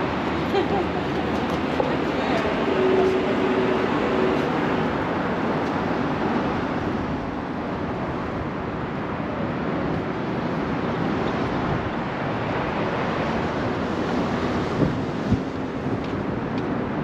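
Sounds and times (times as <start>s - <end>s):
road traffic: 0.0s - 17.0s
wind on microphone: 0.0s - 17.0s.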